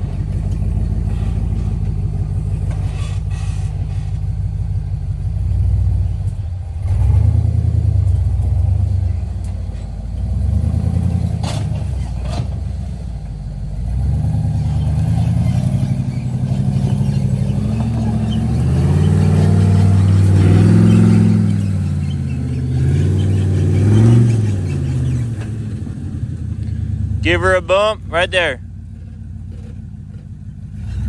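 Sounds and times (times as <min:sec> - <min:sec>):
engine revving under load: 0:00.0 - 0:31.0.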